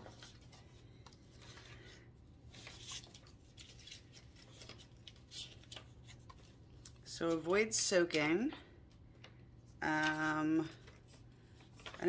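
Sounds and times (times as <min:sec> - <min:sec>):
paper card rustling: 0:00.0 - 0:12.0.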